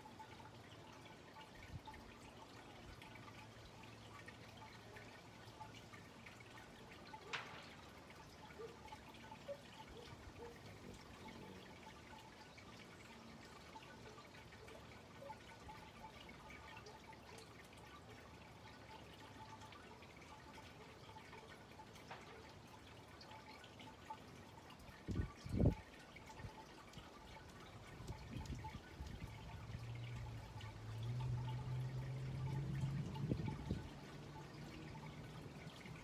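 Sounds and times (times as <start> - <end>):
soft ticks and chirps: 0.0 - 36.0.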